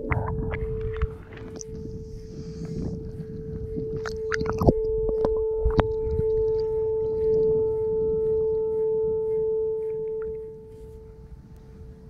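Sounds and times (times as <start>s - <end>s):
steady held tone: 0.0s - 12.0s.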